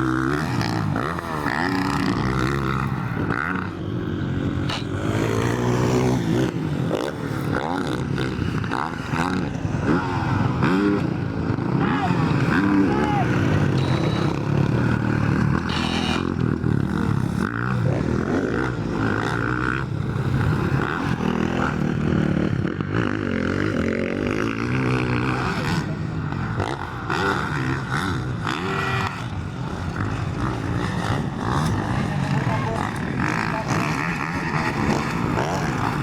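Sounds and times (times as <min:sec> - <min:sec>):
motocross bike engines revving: 0:00.0 - 0:36.0.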